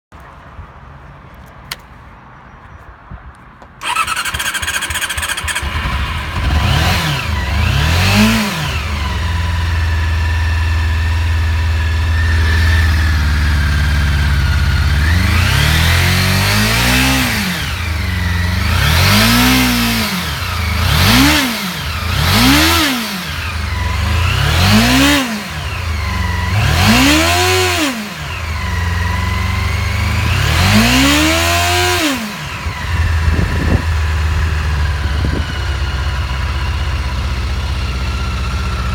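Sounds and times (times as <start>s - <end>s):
motorcycle engine revving: 3.8s - 38.9s.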